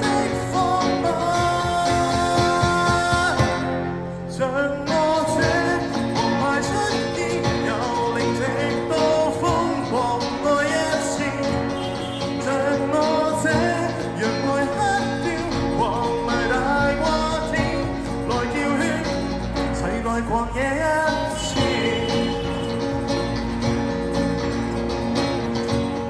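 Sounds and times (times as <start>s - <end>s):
live rock band playing: 0.0s - 4.3s, 4.9s - 26.0s
person singing: 0.0s - 22.8s.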